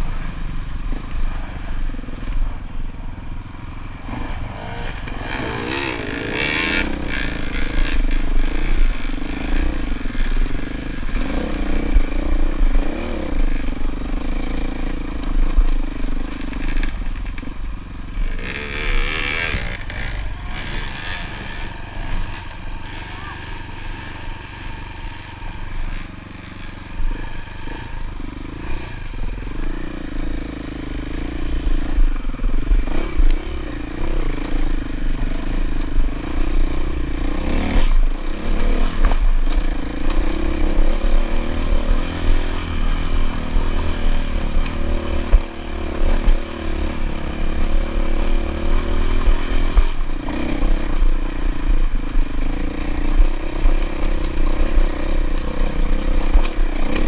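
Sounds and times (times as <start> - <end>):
bike rattling over rough ground: 0.0 - 57.0
dirt bike engine revving: 0.0 - 57.0.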